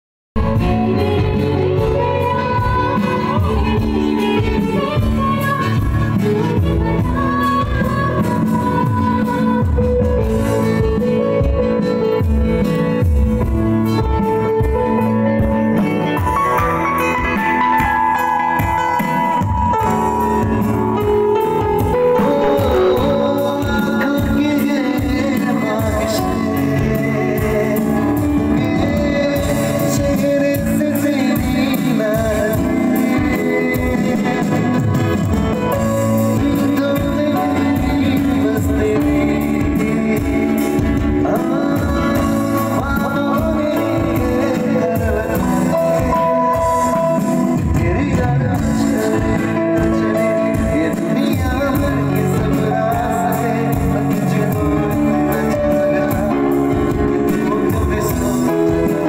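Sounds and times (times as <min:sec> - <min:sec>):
guitar: 0:00.4 - 0:59.0
keyboard: 0:00.4 - 0:59.0
man singing into microphone: 0:00.4 - 0:59.0.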